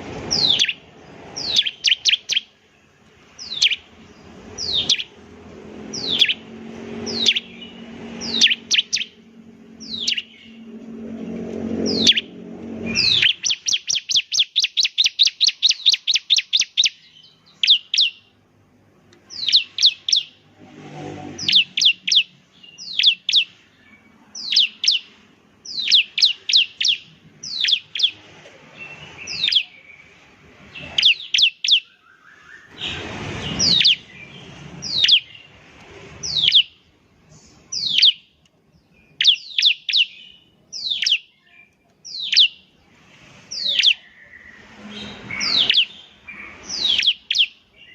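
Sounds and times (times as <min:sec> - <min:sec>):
bird chirping and trilling: 0:00.0 - 0:18.4, 0:19.2 - 0:42.8, 0:43.4 - 0:47.9.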